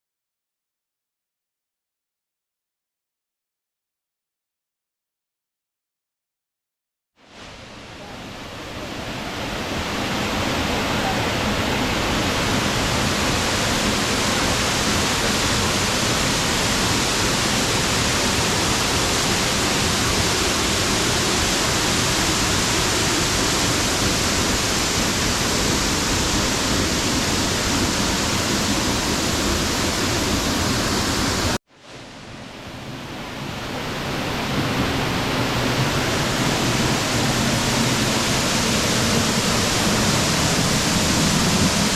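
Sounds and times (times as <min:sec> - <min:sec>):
waterfall rushing loudly: 0:07.2 - 0:41.9.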